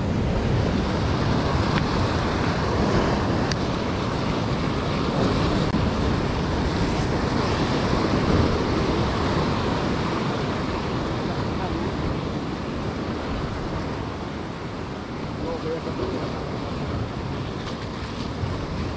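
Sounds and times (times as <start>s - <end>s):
sea surf washing on shore: 0.0s - 18.9s
wind on microphone: 0.0s - 18.9s.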